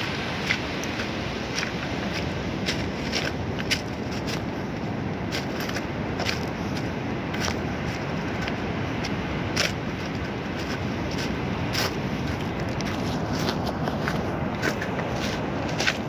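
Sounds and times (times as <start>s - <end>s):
surf washing onto pebbles: 0.0s - 16.0s.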